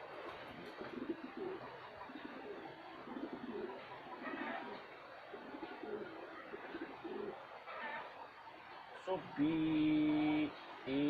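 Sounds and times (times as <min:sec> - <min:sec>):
pigeons cooing: 0:00.0 - 0:08.9.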